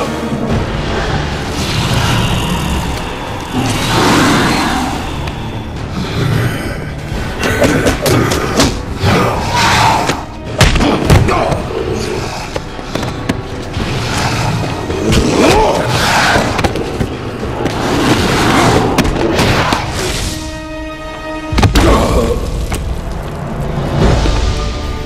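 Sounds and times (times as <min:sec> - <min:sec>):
action film score music: 0:00.0 - 0:25.0.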